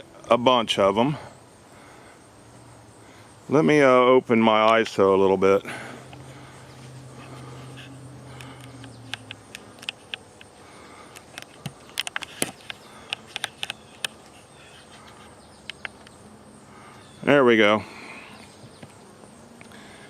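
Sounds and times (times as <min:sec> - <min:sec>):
bees humming: 0:00.0 - 0:20.0.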